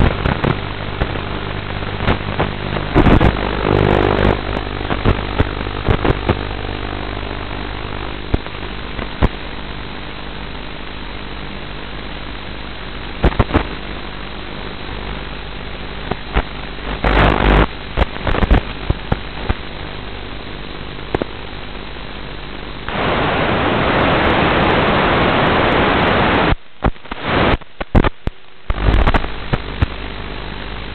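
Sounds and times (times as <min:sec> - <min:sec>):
radio crackles: 0:00.0 - 0:30.9
video link static hiss: 0:00.0 - 0:30.9.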